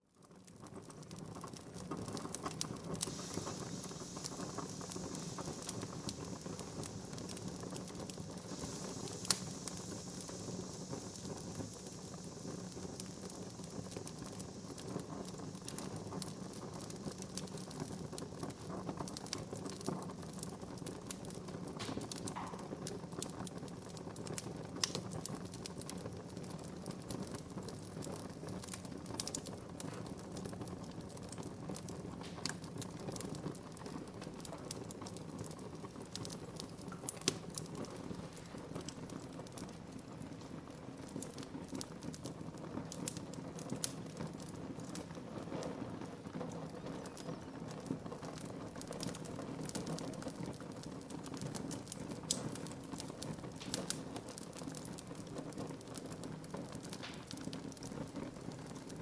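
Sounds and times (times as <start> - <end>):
fireplace fire crackling: 0.0 - 59.0.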